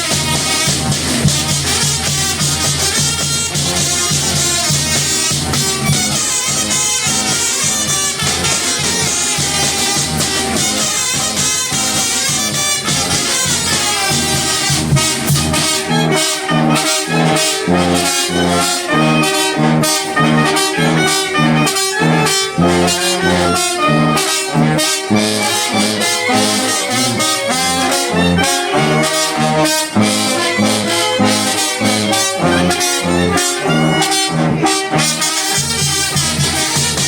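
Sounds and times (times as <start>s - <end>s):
brass band playing: 0.0s - 37.0s.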